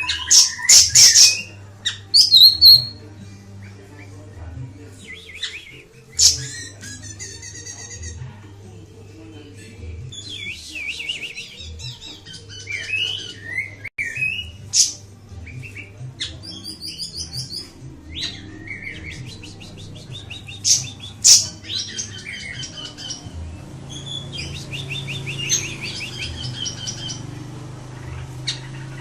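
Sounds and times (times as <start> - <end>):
songbird chirps and trills: 0.0 - 29.0.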